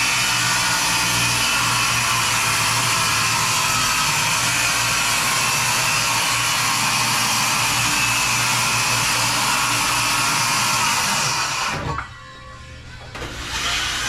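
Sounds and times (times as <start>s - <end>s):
power tool motor whirring: 0.0s - 12.2s, 13.0s - 14.0s.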